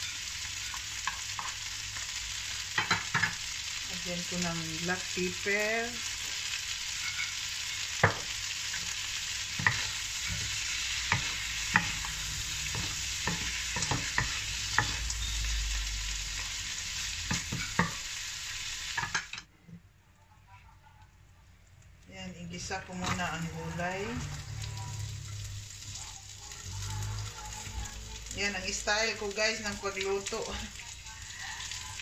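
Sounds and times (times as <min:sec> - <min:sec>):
shrimp sizzling in a wok: 0:00.0 - 0:19.5, 0:22.6 - 0:32.0.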